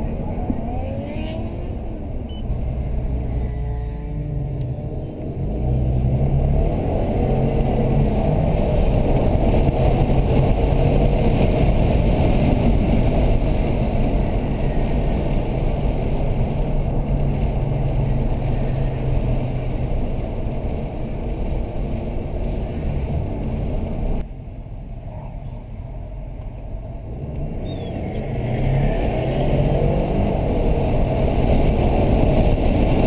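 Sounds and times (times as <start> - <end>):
car engine cruising: 0.0 - 33.0
road and tyre noise: 0.0 - 33.0.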